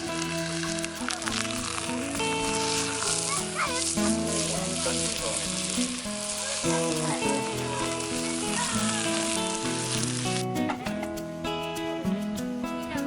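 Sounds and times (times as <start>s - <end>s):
food sizzling: 0.0s - 11.8s.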